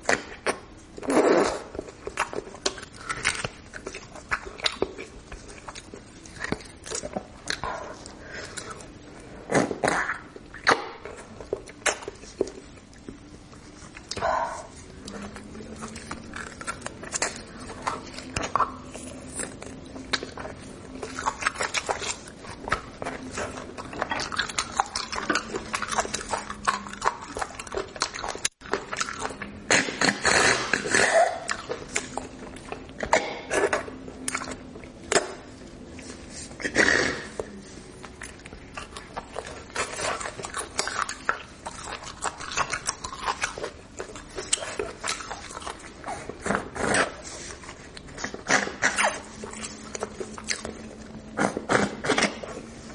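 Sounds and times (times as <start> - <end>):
wet mouth smacks and chewing: 0.0 - 52.7.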